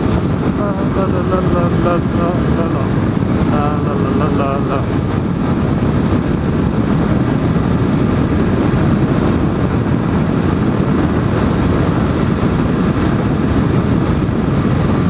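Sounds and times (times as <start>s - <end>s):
motorcycle engine drone: 0.0s - 15.0s
wind rush on microphone: 0.0s - 15.0s.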